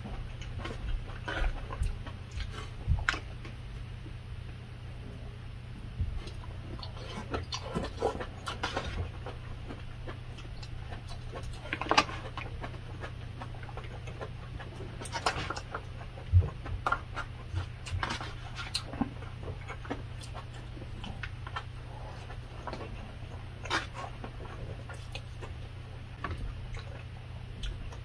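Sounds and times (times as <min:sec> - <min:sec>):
chewing and mouth sounds: 0:00.0 - 0:03.9, 0:06.0 - 0:28.0
steady low hum: 0:00.0 - 0:28.0.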